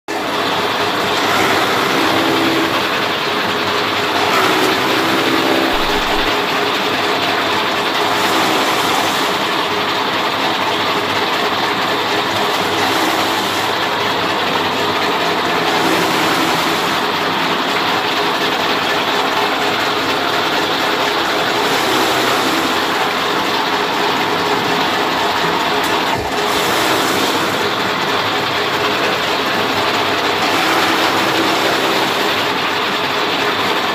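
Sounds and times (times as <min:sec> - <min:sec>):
chaff cutter chopping fodder: 0:00.1 - 0:33.9.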